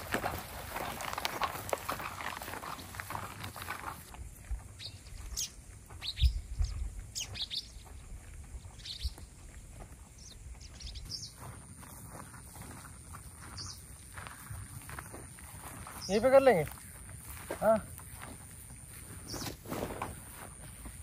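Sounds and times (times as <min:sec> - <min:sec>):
birds chirping: 0:00.0 - 0:19.6.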